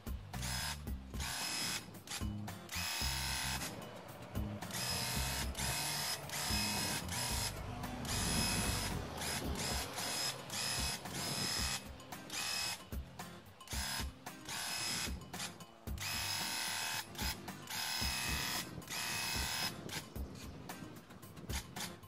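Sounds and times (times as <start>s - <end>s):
background music: 0.0s - 22.0s
paint sprayer pump buzzing: 0.3s - 20.5s.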